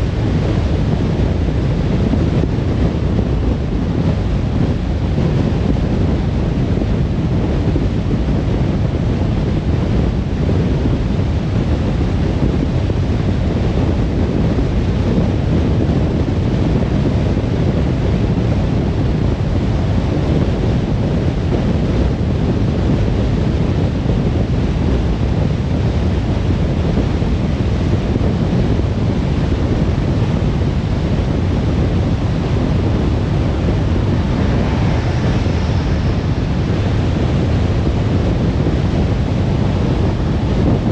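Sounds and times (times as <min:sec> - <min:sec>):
car road and wind noise: 0:00.0 - 0:40.9.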